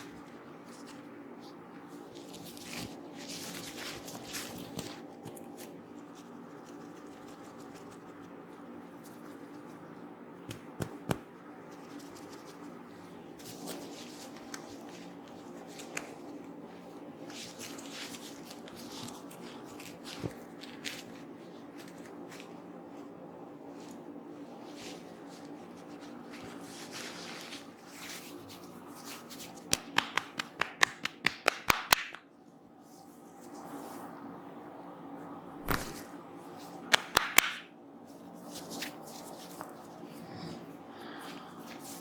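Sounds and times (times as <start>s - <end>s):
hands rubbing hair and skin: 0.0s - 23.1s, 23.7s - 34.2s, 35.7s - 40.1s, 41.3s - 42.0s.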